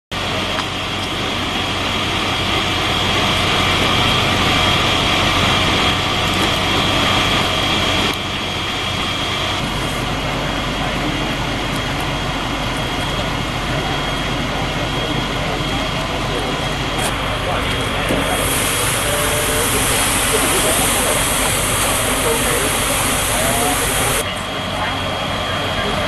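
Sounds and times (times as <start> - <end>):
engine running: 0.1 - 26.0
high whine: 0.1 - 26.0.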